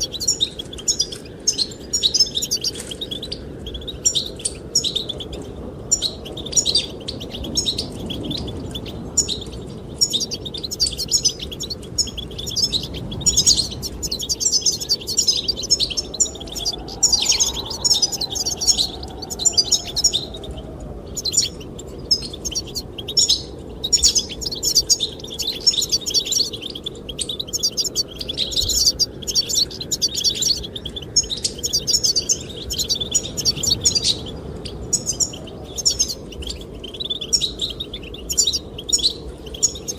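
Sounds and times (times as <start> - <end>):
finches singing and twittering: 0.0 - 39.9
wind rushing: 4.6 - 36.8.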